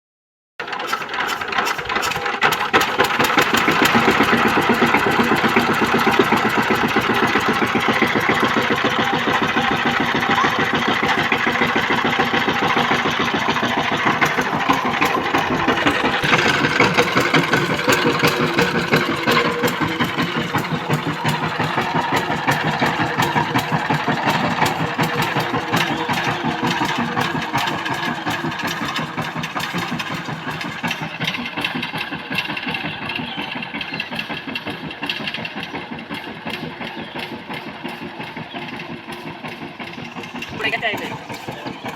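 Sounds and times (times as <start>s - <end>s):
power tiller engine chugging: 0.6s - 41.9s.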